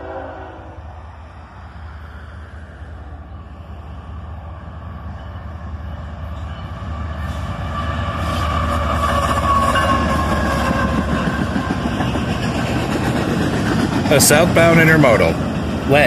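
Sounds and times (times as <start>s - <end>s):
locomotive engine rumble: 0.0s - 16.0s.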